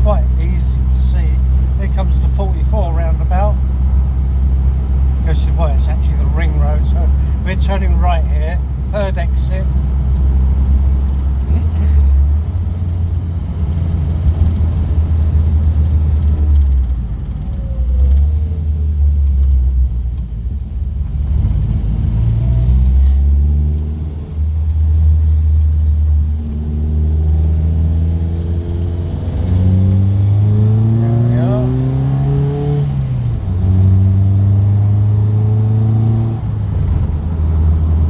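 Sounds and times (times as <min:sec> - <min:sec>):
car engine: 0:00.0 - 0:38.0
road rumble inside car: 0:00.0 - 0:38.0.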